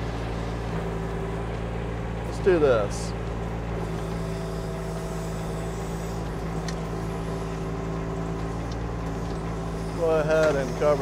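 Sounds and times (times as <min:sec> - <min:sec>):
diesel excavator engine running: 0:00.0 - 0:11.0.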